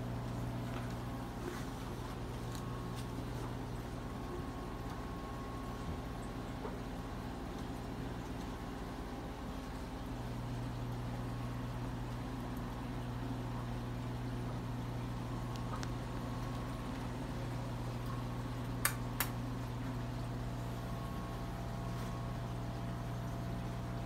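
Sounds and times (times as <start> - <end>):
aquarium pumps humming: 0.0 - 24.0.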